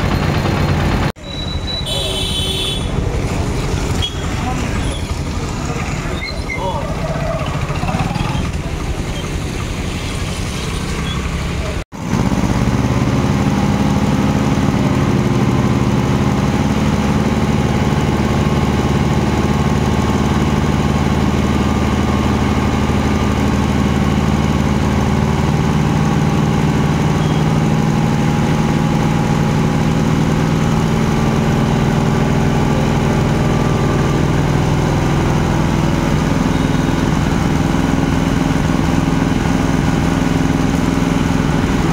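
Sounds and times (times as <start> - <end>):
vehicle engine idling: 0.0 - 41.9.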